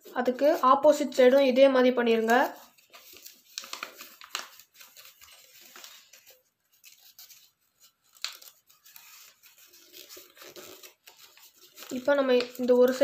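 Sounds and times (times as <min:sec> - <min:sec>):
paper rustling and crinkling: 0:00.0 - 0:13.0
sharp paper crackles: 0:00.0 - 0:13.0.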